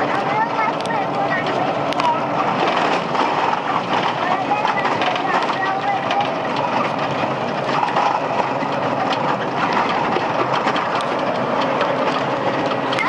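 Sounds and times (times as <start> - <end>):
vehicle rattling in motion: 0.0 - 13.0
small clicks and knocks: 0.6 - 13.0.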